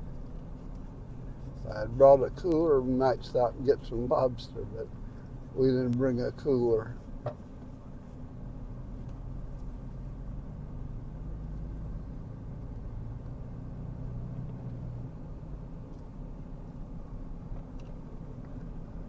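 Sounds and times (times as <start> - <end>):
car engine hum: 0.0 - 19.0
road noise: 0.0 - 19.0.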